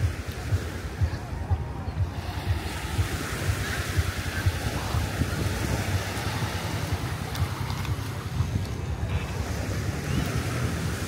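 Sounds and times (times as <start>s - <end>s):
sea waves on shore: 0.0s - 11.0s
wind buffeting microphone: 0.0s - 11.0s.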